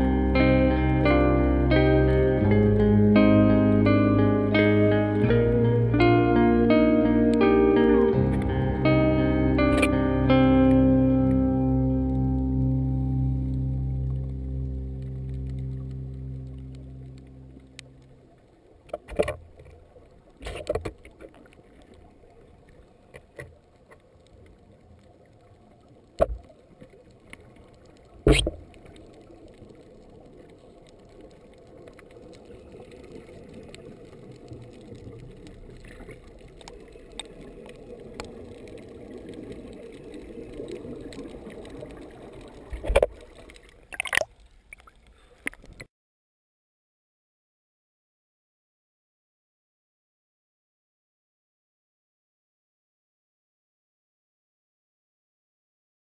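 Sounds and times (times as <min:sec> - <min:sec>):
faint underwater wash: 0:00.0 - 0:45.9.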